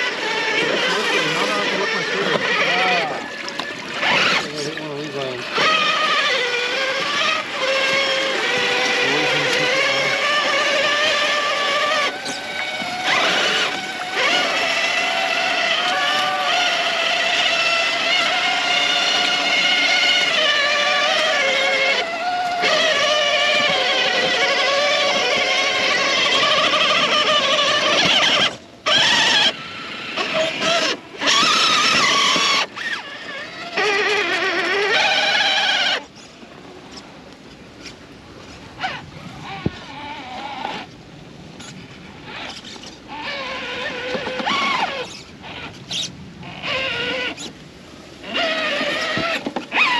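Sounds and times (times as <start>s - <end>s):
electric motor whining: 0.0s - 36.3s, 38.8s - 47.6s, 48.2s - 49.9s.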